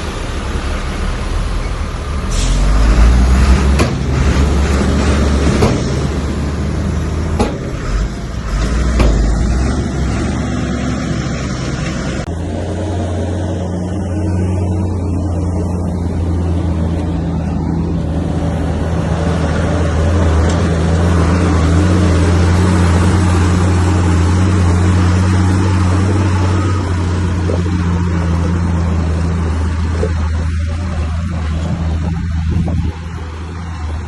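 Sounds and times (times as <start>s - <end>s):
heavy diesel engine humming: 0.0s - 34.0s.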